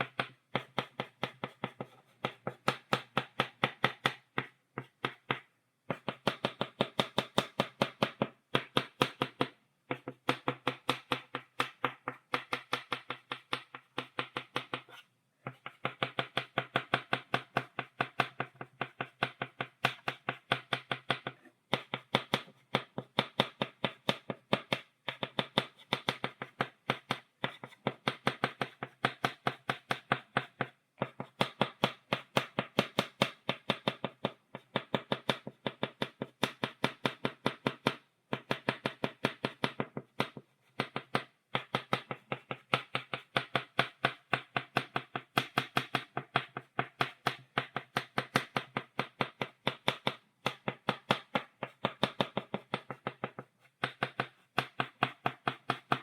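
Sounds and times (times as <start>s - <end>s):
chalk tapping on blackboard: 0.0s - 56.0s.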